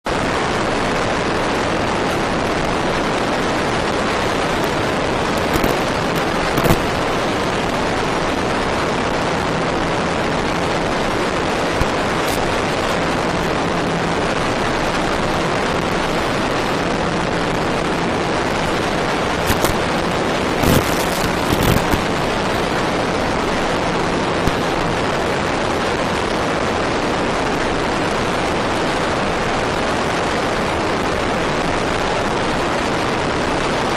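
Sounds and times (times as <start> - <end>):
loud rushing noise: 0.1 - 31.9
sharp pops and crackles: 0.1 - 33.9.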